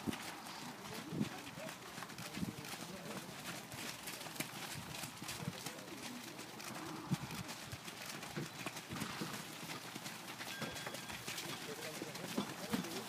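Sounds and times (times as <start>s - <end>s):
horse hoofbeats on wet dirt: 0.0s - 13.0s.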